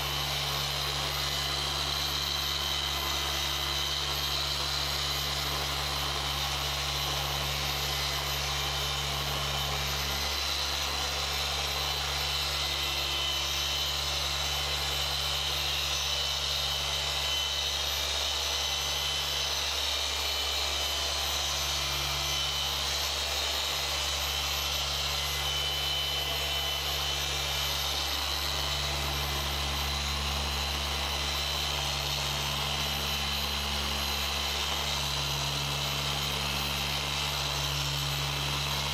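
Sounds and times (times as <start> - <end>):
machine polisher whirring: 0.0 - 38.9.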